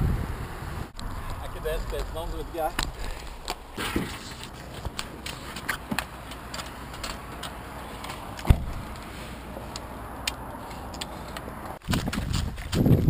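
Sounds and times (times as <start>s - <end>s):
steady outdoor hiss: 0.0s - 11.8s.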